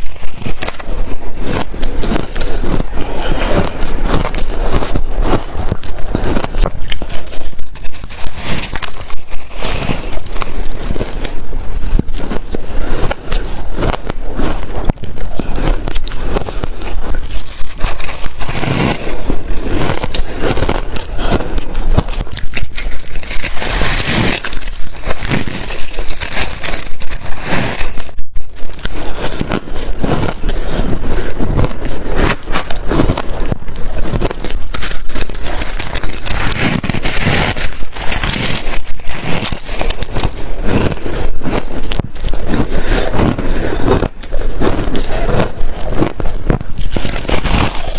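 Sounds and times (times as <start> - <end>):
shaved ice being crunched: 0.0 - 11.4, 15.6 - 21.1, 22.0 - 47.9.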